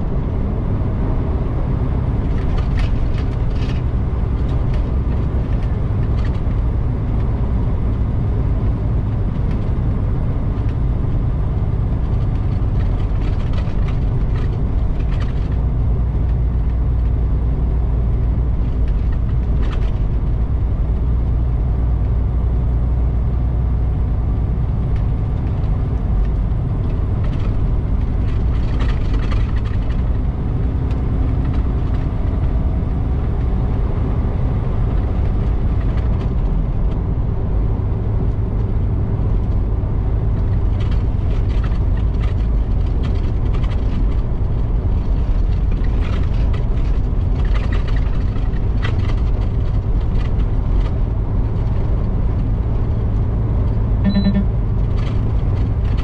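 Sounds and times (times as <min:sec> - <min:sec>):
truck engine and tyres droning: 0:00.0 - 0:56.0.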